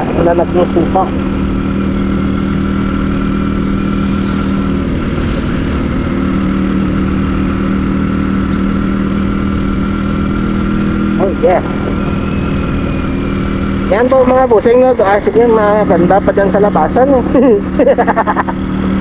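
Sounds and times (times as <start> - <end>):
motorcycle engine running steadily: 0.0 - 19.0
wind and road noise: 0.0 - 19.0.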